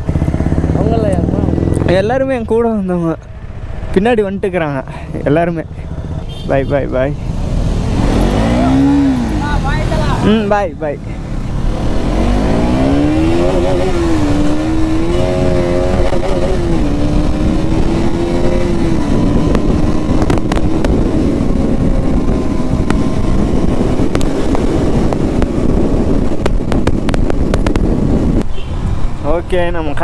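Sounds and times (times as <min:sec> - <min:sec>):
motorcycle engine accelerating: 0:00.0 - 0:02.4, 0:05.2 - 0:28.5.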